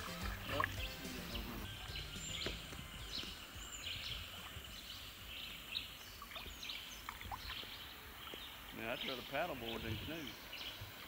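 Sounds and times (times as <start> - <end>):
bird chirps and calls: 0.2 - 11.0.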